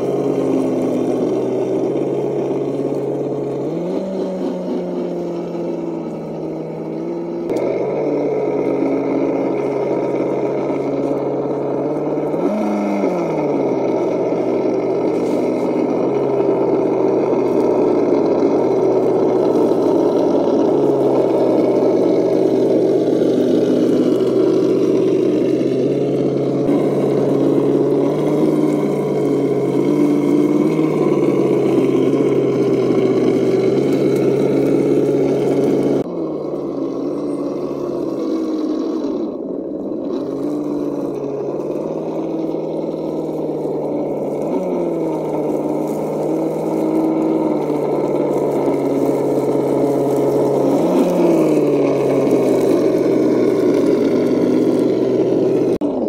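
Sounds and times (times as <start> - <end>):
toy car motor whining: 0.0 - 56.0.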